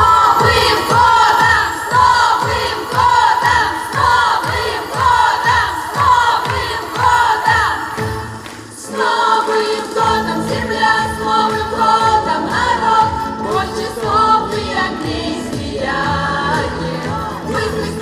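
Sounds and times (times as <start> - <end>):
group singing a song: 0.0 - 18.0
instrumental accompaniment with beat: 0.0 - 18.0.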